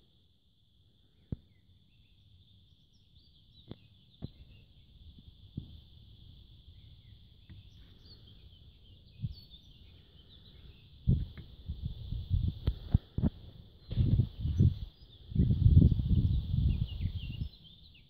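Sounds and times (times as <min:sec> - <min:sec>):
bird chirps: 0:01.1 - 0:12.0, 0:13.8 - 0:18.0.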